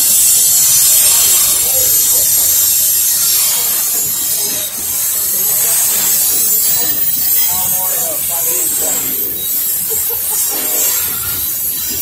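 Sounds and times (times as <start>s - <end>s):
steel wheels hissing on rails: 0.0s - 12.0s.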